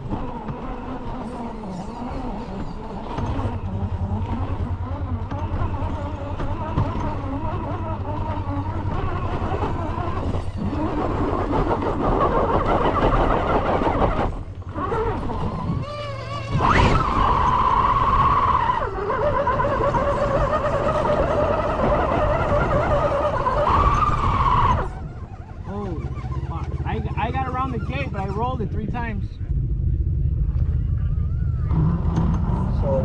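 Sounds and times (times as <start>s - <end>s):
toy car electric motor whining: 0.0s - 28.3s.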